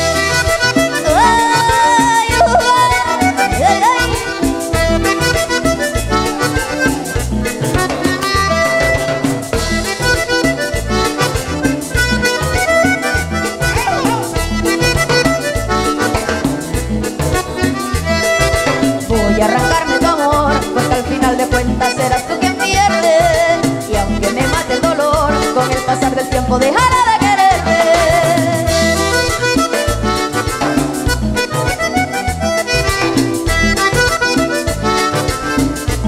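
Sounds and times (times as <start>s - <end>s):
bass guitar: 0.0s - 36.0s
button accordion: 0.0s - 36.0s
congas: 0.0s - 36.0s.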